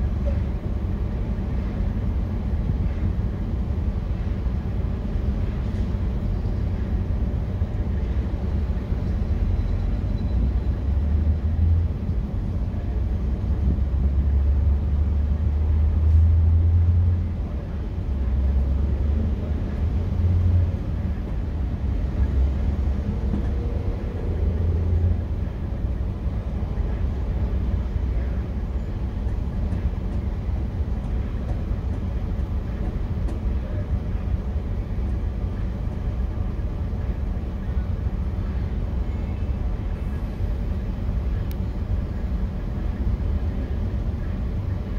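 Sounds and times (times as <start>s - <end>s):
traffic rumble: 0.0s - 44.9s.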